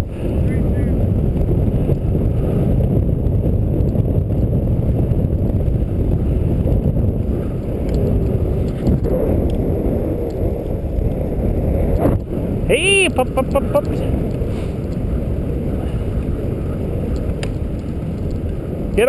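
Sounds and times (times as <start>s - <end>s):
sled runners sliding over snow: 0.0s - 19.0s
wind buffeting microphone: 0.0s - 19.0s.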